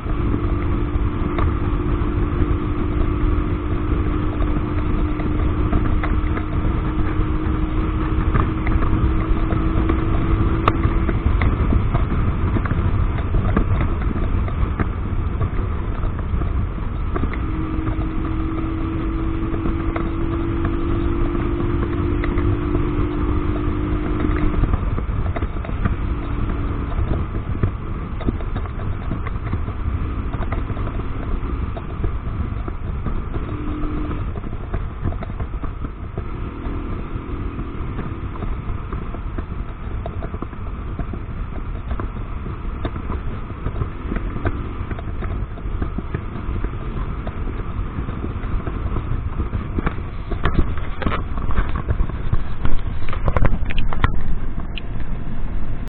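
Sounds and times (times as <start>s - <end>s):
motorcycle engine running: 0.0s - 55.9s
steady hum: 0.0s - 55.9s
wind rush on microphone: 0.0s - 55.9s.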